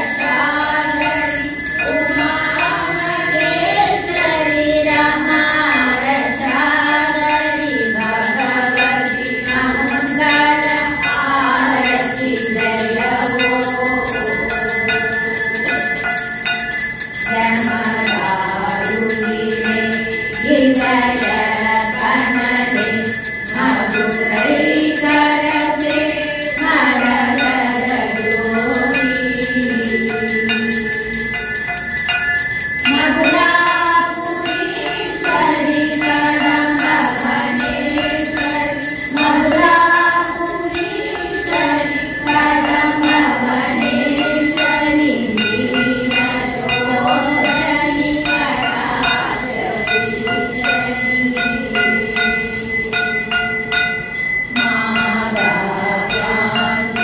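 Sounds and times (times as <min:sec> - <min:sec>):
bells ringing: 0:00.0 - 0:57.0.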